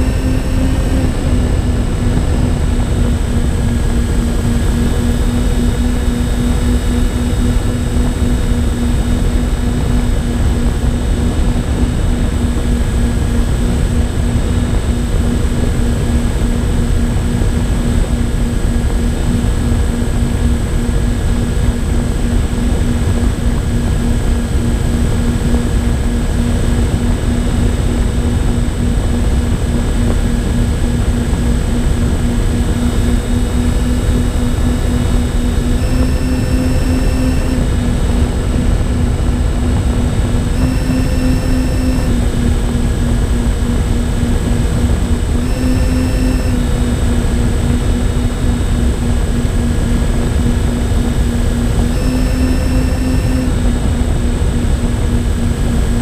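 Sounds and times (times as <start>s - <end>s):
model plane motors droning: 0.0s - 56.0s.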